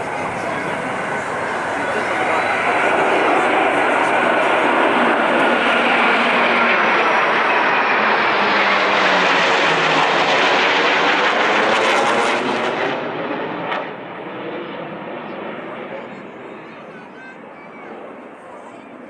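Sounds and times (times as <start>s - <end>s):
military aircraft engine roar: 0.0s - 19.0s.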